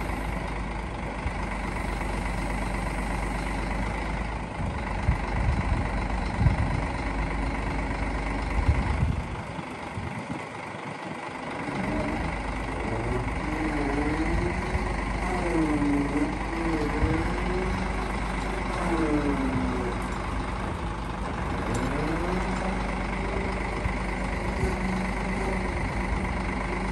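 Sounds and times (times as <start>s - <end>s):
hydraulic crane whine: 0.0s - 26.9s
truck engine running: 0.0s - 26.9s.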